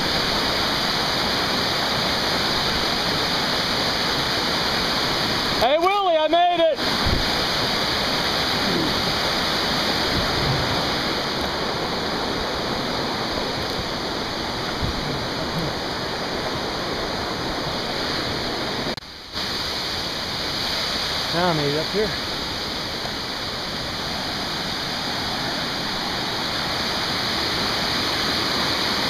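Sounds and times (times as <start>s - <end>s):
waterfall rushing over rocks: 0.0s - 29.0s.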